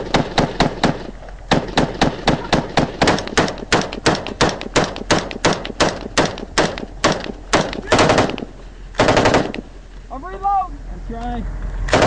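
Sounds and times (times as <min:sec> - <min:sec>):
rifle shots: 0:00.0 - 0:09.7.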